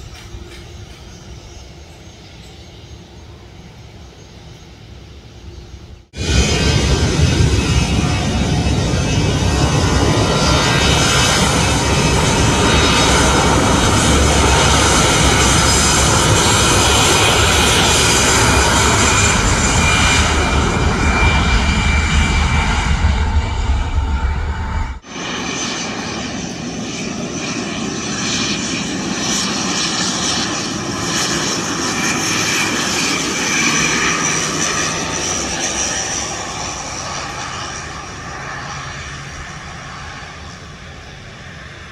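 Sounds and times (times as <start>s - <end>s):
airliner engines at high power: 0.0s - 41.9s.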